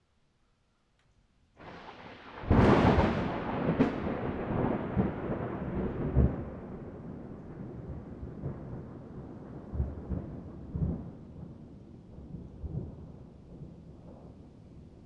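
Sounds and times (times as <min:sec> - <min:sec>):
faint rain: 0:01.0 - 0:15.0
rolling thunder rumbling: 0:01.6 - 0:15.0.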